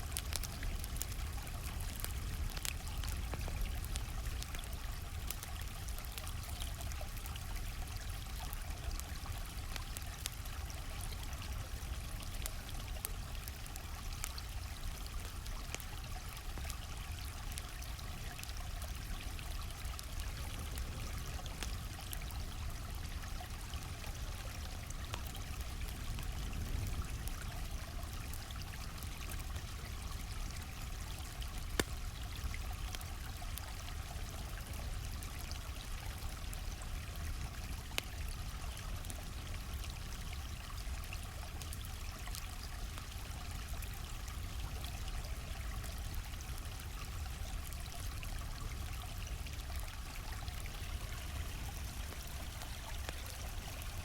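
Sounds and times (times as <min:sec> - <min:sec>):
campfire crackling: 0:00.0 - 0:54.0
stream flowing: 0:00.0 - 0:54.0.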